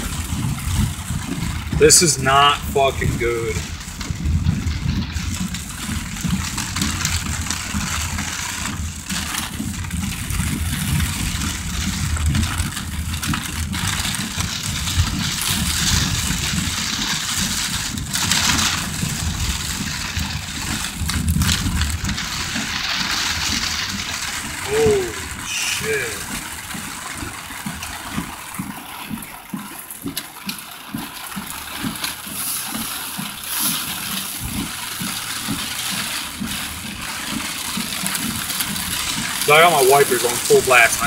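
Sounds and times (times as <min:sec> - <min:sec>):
engine and tyres rumbling: 0:00.0 - 0:41.0
heavy rain on car roof: 0:00.0 - 0:41.0.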